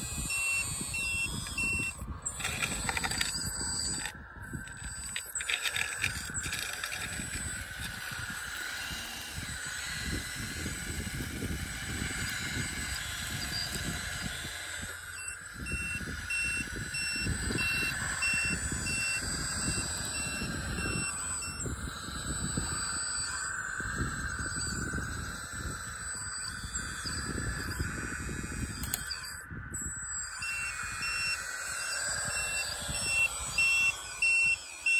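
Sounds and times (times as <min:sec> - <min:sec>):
model loader motor noise: 0:00.0 - 0:34.9
reversing beeper: 0:00.0 - 0:34.9.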